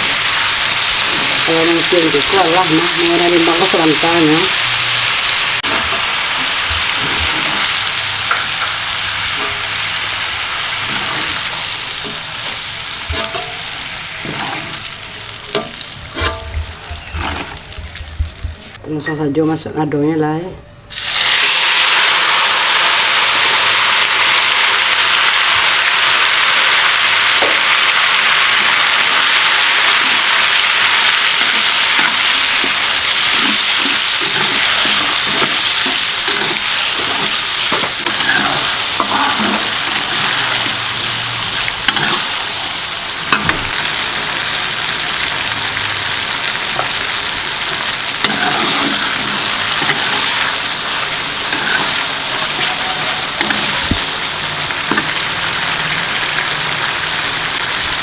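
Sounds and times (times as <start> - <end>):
spice paste sizzling in oil: 0.0 - 18.2, 20.9 - 58.0.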